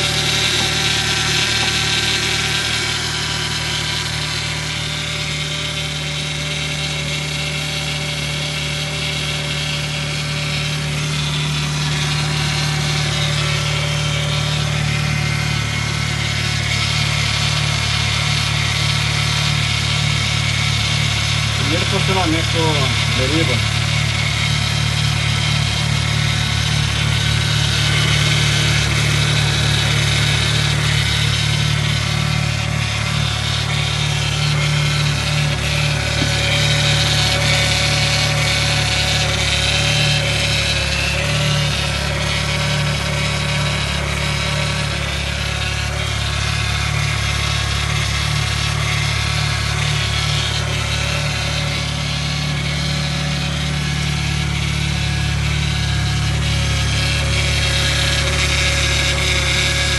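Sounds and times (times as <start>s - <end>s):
car engine idling: 0.0s - 59.9s
power steering pump grinding whine: 0.0s - 59.9s.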